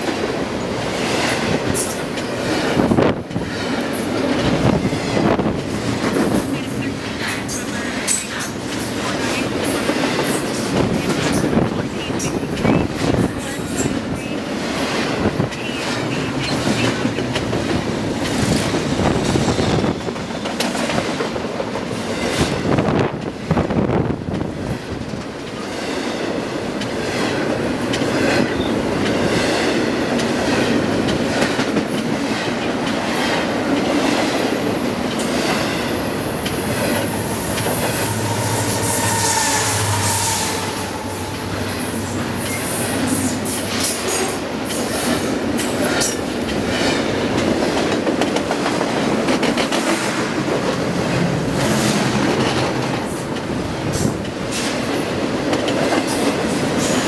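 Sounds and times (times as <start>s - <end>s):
wheels clicking over rail joints: 0.0s - 23.4s, 24.2s - 38.6s, 41.6s - 57.0s
freight train rumble and rattle: 0.0s - 57.0s.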